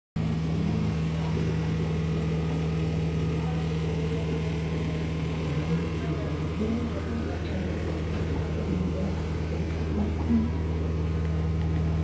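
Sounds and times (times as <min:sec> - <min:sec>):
vehicle engine droning: 0:00.2 - 0:12.0.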